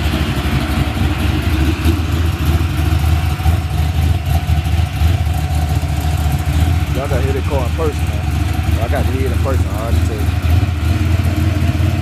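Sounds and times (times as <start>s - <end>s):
car engine idling choppy: 0.0s - 12.0s.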